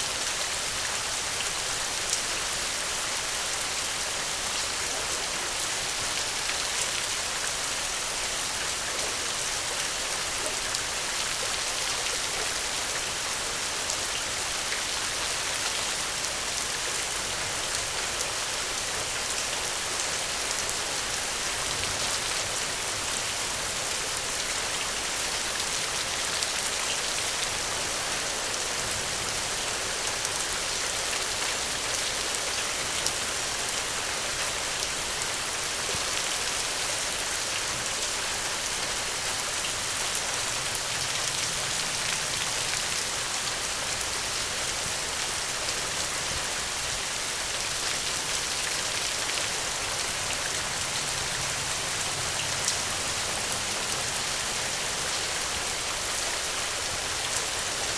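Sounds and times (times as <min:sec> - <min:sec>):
gentle rain falling: 0:00.0 - 0:57.9.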